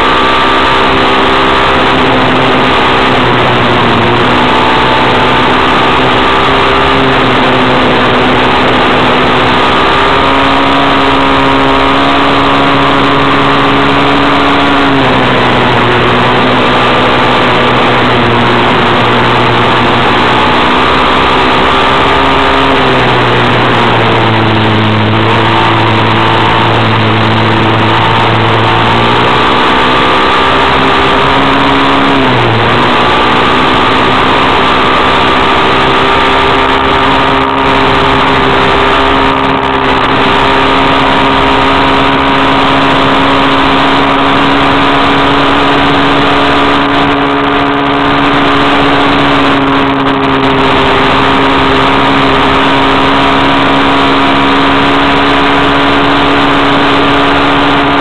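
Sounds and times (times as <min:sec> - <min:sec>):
tyres on gravel road: 0:00.0 - 0:58.0
vehicle engine running at speed: 0:00.0 - 0:58.0.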